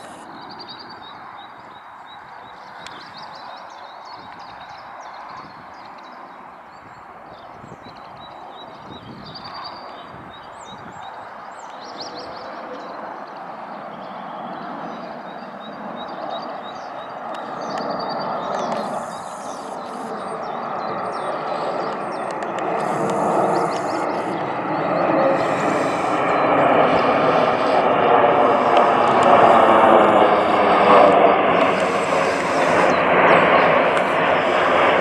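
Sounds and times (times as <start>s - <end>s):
birds chirping: 0.0s - 35.0s
jet engines roaring: 0.0s - 35.0s.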